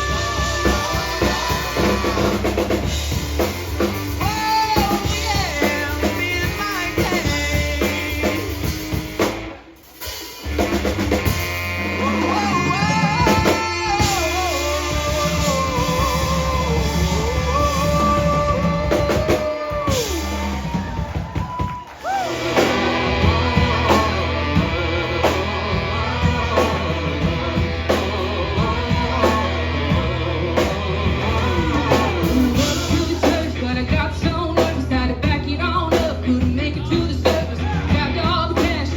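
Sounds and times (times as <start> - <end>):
person singing: 0.0 - 3.5, 4.1 - 9.3, 11.2 - 38.9
bass guitar: 0.0 - 38.9
drum kit: 0.0 - 38.9
electric guitar: 0.0 - 38.9.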